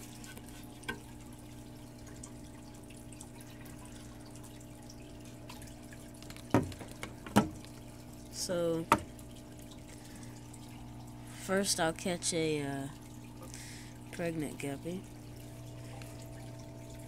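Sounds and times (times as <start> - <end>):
aquarium filter humming: 0.0 - 17.0
water trickling and dripping: 0.0 - 17.0.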